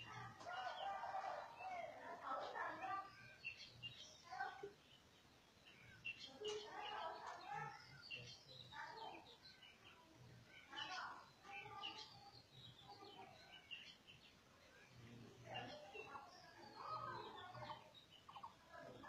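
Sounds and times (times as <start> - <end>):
birds chirping: 0.0 - 19.0
faint indistinct voices: 0.0 - 19.0.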